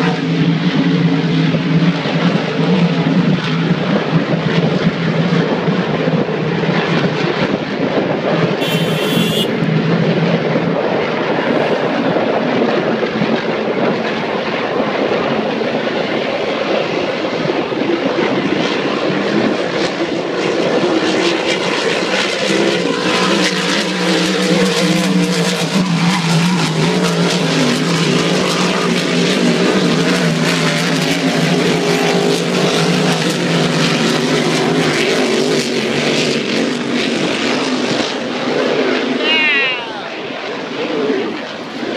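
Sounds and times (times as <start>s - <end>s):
racing boat engines droning: 0.0s - 41.9s.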